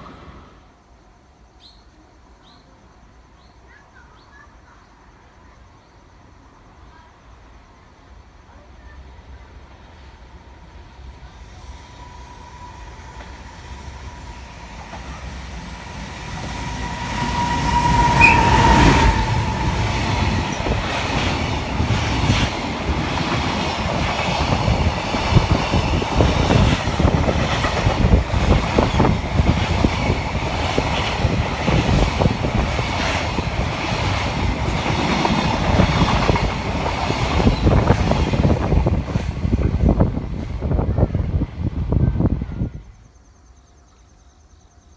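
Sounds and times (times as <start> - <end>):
train rumble with high ring: 0.0 - 1.2, 6.2 - 44.9.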